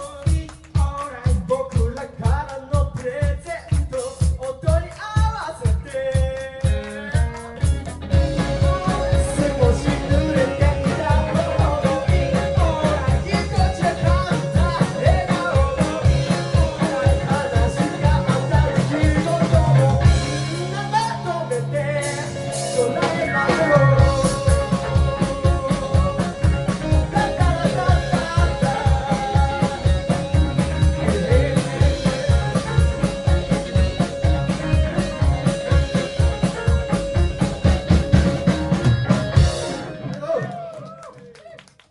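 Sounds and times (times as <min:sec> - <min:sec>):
person singing: 0:00.0 - 0:36.2
drum kit beat: 0:00.0 - 0:41.0
live rock band playing: 0:00.0 - 0:41.2.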